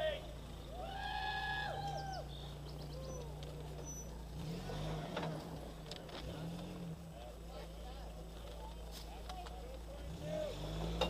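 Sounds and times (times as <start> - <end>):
engine humming: 0.0 - 11.0
faint voices: 0.0 - 11.0.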